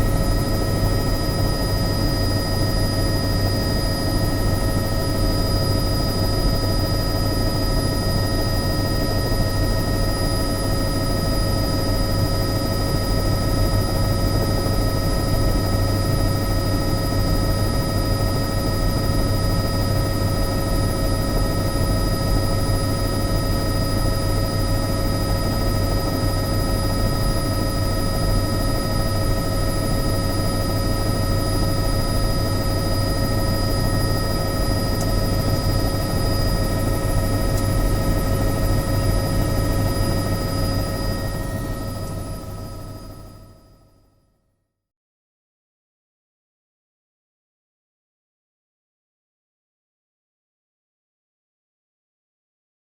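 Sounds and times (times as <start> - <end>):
high turbine whine: 0.0 - 43.5
helicopter rotor and engine drone: 0.0 - 44.2.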